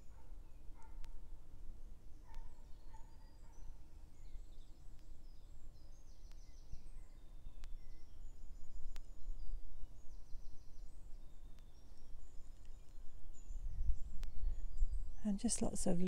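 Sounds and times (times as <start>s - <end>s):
songbirds singing and trilling: 0.0s - 16.0s.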